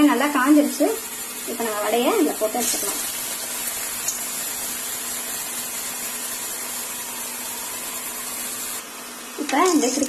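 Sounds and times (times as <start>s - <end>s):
food deep-frying in hot oil: 0.0s - 10.0s.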